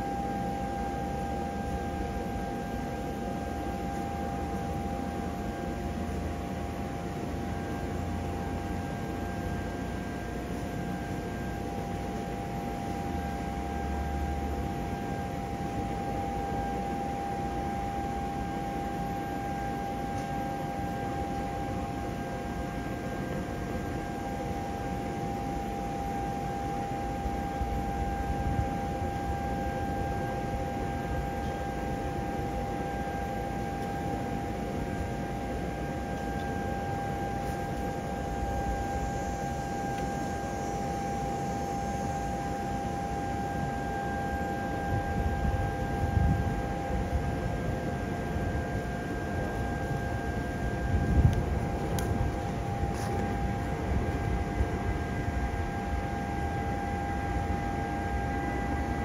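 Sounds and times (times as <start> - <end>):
blower fan rush of air: 0.0 - 59.0
blower fan whine: 0.0 - 59.0.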